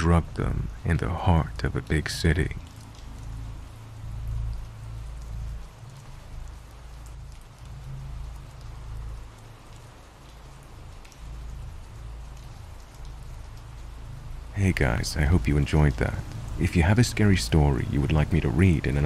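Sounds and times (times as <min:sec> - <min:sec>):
rain hiss: 0:00.0 - 0:19.0
raindrop ticks: 0:00.0 - 0:19.0.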